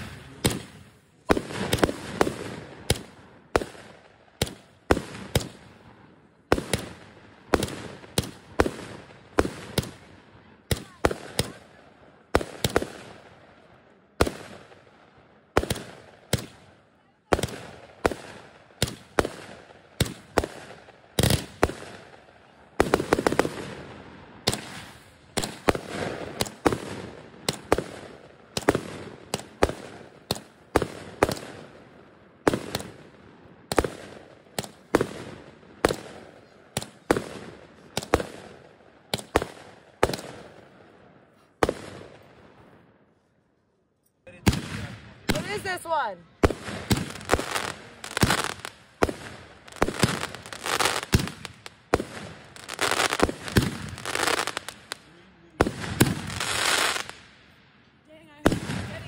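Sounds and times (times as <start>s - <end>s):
rapid firework crackling: 0.0s - 5.9s, 6.5s - 13.4s, 14.2s - 40.8s, 44.4s - 57.4s
firework bangs echoing: 0.0s - 42.8s, 44.4s - 57.3s, 58.4s - 59.0s.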